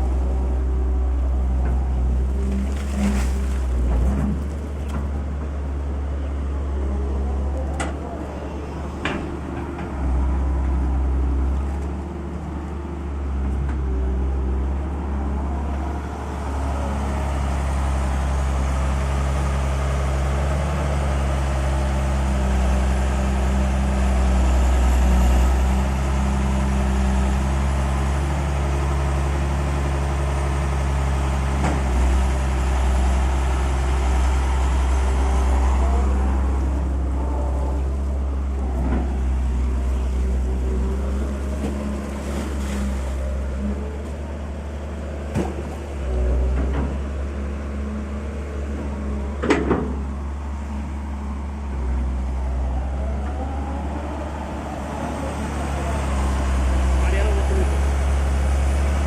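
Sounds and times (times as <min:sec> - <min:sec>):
heavy engine rumbling: 0:00.0 - 0:59.0.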